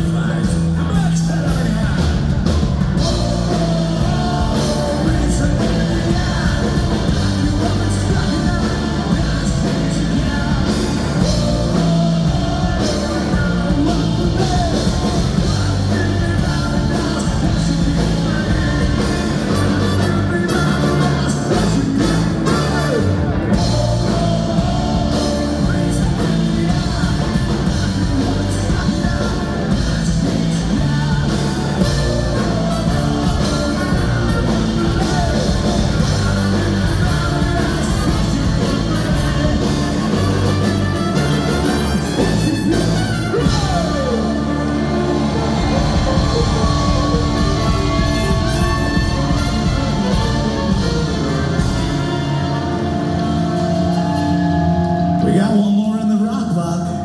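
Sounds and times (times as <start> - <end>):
bass: 0.0 - 57.0
drums: 0.0 - 57.0
electric guitar: 0.0 - 57.0
horns: 0.0 - 57.0
person singing: 0.0 - 57.0.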